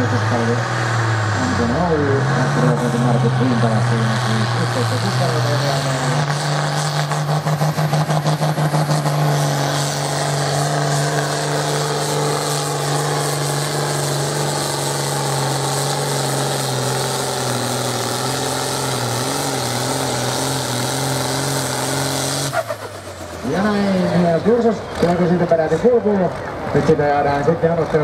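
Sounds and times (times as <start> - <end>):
diesel tractor engine under heavy load: 0.0 - 28.0.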